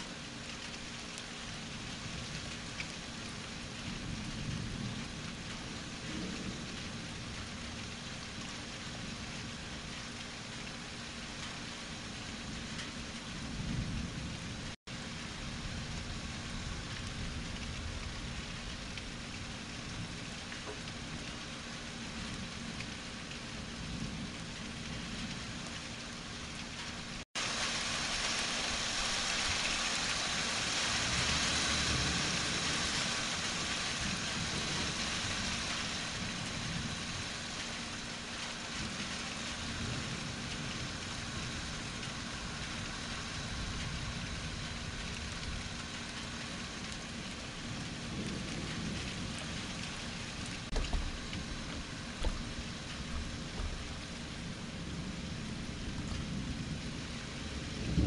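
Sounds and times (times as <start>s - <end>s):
steady rain falling: 0.0s - 58.0s
low thunder rumble: 1.6s - 10.1s, 11.4s - 58.0s.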